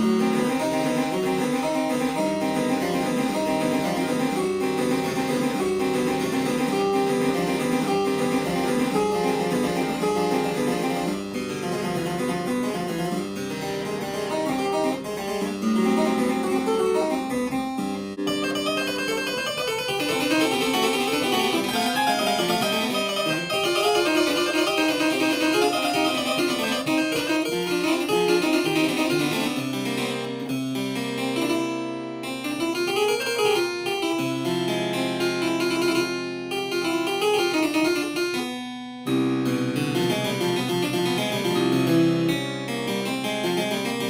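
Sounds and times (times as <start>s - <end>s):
harpsichord playing: 0.0s - 44.0s.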